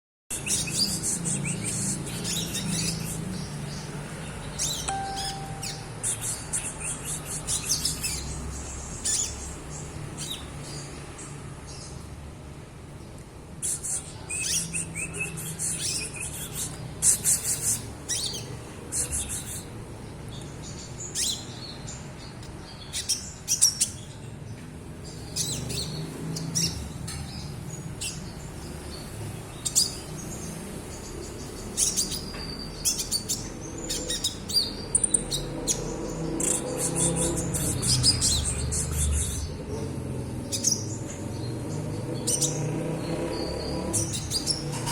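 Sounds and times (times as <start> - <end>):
bird twittering chirps: 0.3 - 12.0, 13.6 - 44.9.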